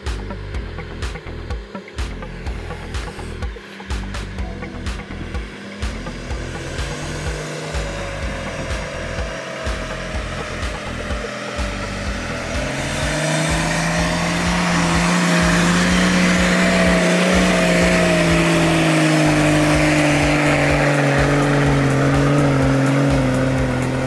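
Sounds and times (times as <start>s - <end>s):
engine revving under load: 0.0s - 24.0s.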